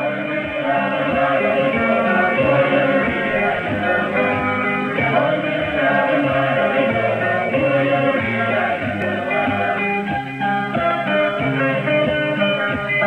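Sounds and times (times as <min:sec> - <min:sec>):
music with singing over radio: 0:00.0 - 0:13.0.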